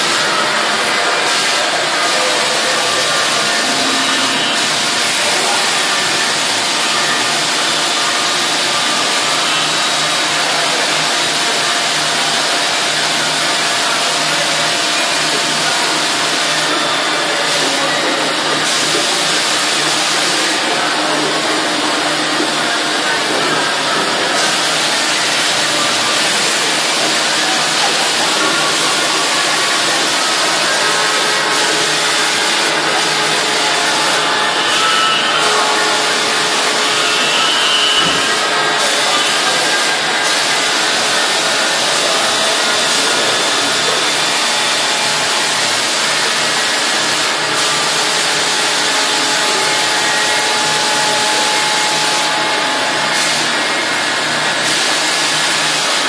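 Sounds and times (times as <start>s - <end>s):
cnc router rushing hiss: 0.0s - 56.0s.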